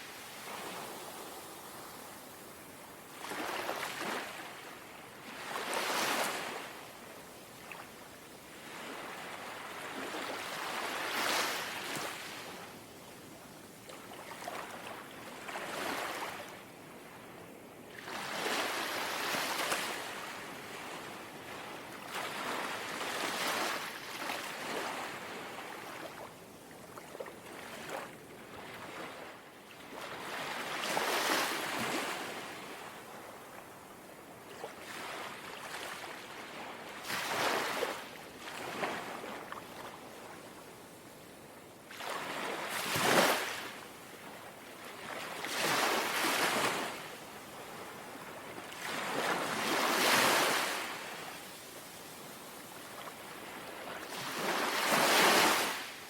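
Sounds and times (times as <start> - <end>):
gentle waves lapping at shore: 0.0 - 56.0.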